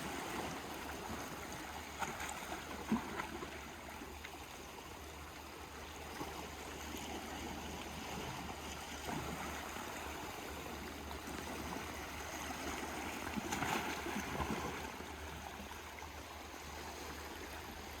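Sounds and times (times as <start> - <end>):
water lapping in small waves: 0.0 - 18.0.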